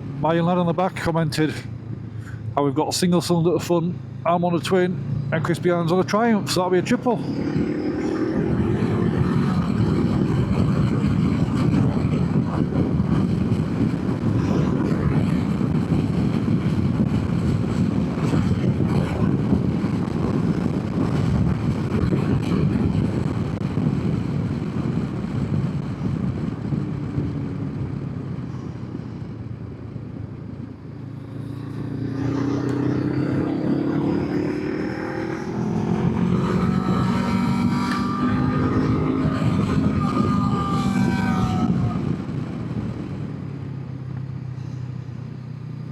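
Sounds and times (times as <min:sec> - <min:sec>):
road noise: 0:00.0 - 0:45.9
wind noise: 0:00.0 - 0:45.9
motorcycle engine running: 0:05.0 - 0:45.9.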